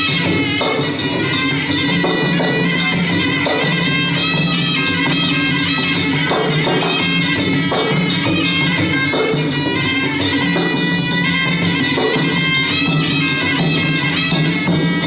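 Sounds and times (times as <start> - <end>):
drums beating: 0.0 - 15.0
reed oboe melody: 0.0 - 15.0
small hand cymbals: 0.0 - 15.0.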